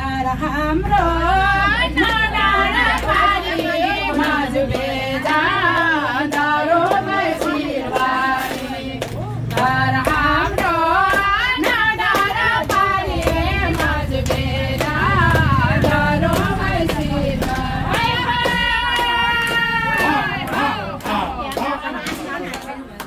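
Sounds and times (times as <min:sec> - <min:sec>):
voices singing: 0:00.0 - 0:23.0
hand claps: 0:02.0 - 0:23.0.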